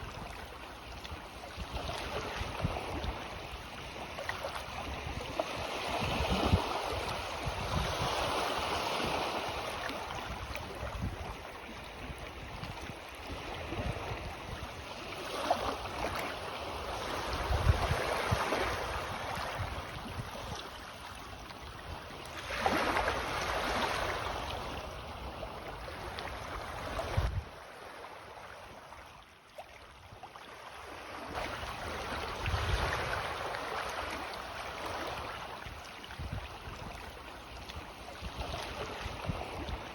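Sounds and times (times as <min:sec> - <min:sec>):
small sea waves washing in: 0:00.0 - 0:39.9.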